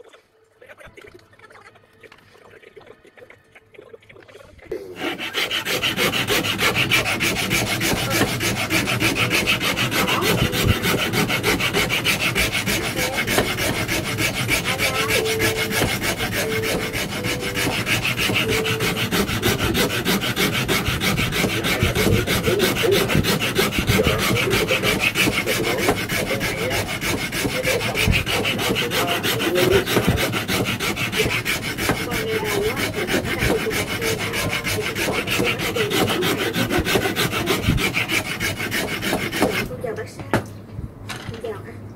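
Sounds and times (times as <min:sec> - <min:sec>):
hand file rasping on wood: 0:04.7 - 0:39.8.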